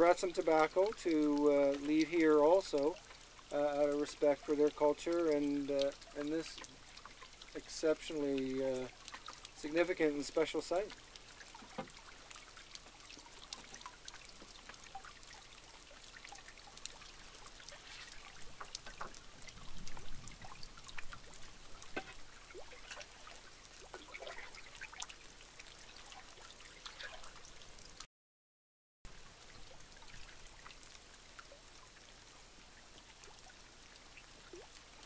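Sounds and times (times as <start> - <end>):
water drips and splashes: 0.0 - 28.1, 29.1 - 35.0
water lapping and trickling: 0.0 - 28.1, 29.1 - 35.0.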